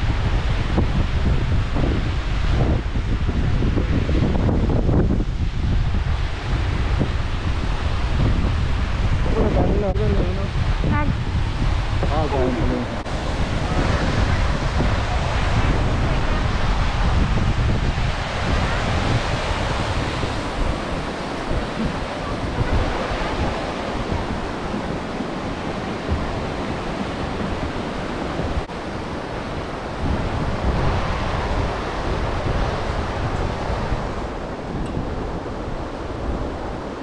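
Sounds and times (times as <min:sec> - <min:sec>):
wind rumbling on microphone: 0:00.0 - 0:37.0.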